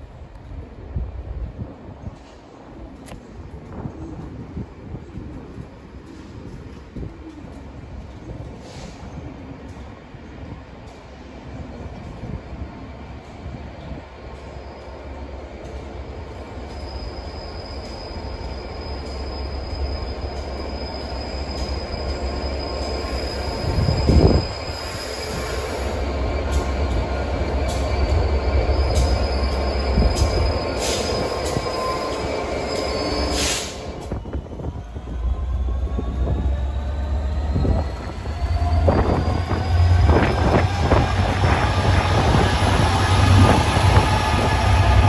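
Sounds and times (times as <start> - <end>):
diesel locomotive engine rumble: 0.0 - 45.0.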